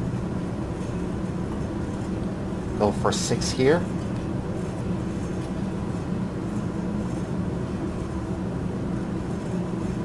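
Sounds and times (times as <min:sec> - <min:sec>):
machinery hum: 0:00.0 - 0:10.0
rushing machinery noise: 0:00.0 - 0:10.0.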